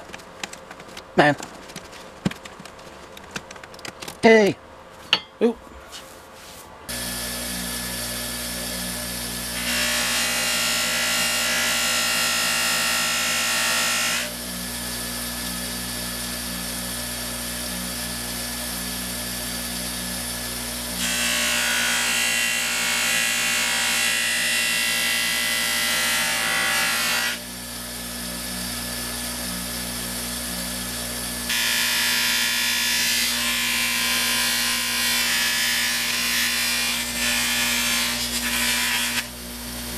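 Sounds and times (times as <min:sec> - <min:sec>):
bench grinder motor hum: 0:06.9 - 0:39.9.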